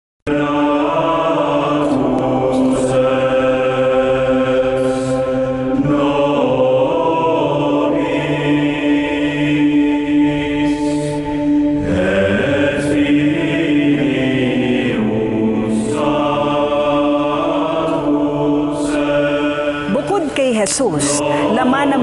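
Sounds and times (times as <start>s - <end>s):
choir-like vocal chanting: 0.3s - 22.0s.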